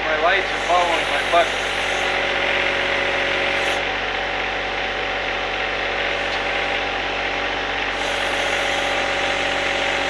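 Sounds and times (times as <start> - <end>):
diesel tractor engine running: 0.0 - 10.0.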